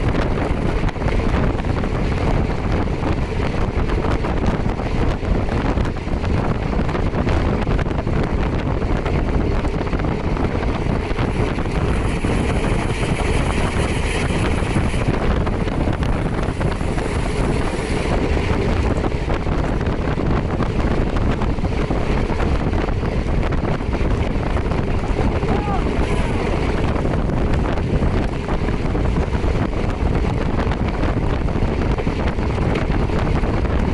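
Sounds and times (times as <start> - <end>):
motorcycle engine: 0.0 - 33.9
road noise: 0.0 - 33.9
wind buffeting microphone: 0.0 - 33.9.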